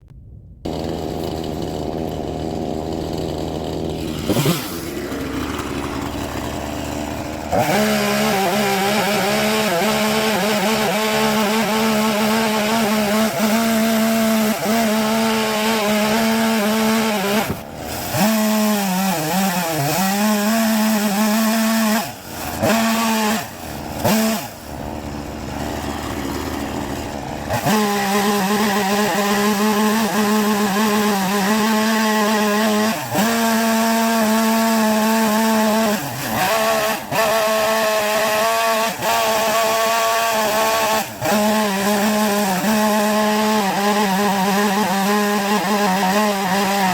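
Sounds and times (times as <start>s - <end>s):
chainsaw revving and cutting wood: 0.6s - 46.9s.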